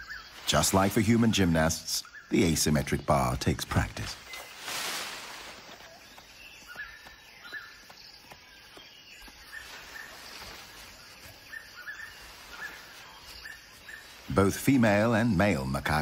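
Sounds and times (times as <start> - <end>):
bird chirping: 0.0 - 16.0
forest ambience: 0.0 - 16.0.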